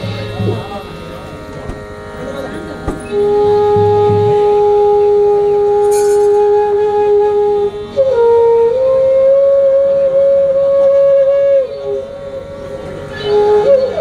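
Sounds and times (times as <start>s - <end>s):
wind instrument long note: 0.0s - 14.0s.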